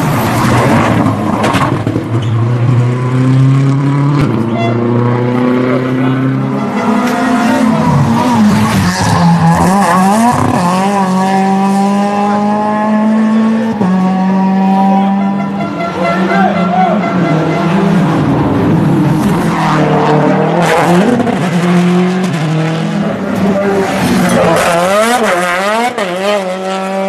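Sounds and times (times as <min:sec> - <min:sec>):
race car engines accelerating past: 0:00.0 - 0:27.0.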